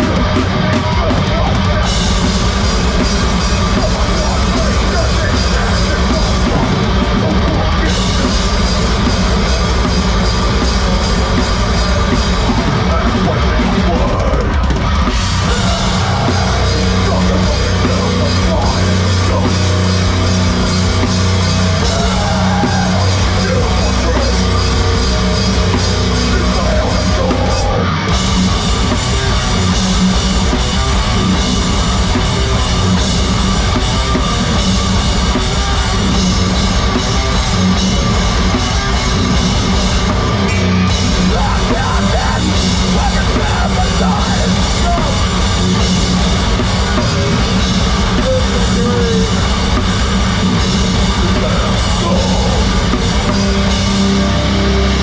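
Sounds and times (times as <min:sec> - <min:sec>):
heavy rock band playing live: 0:00.0 - 0:55.0
pounding drum kit: 0:00.0 - 0:55.0.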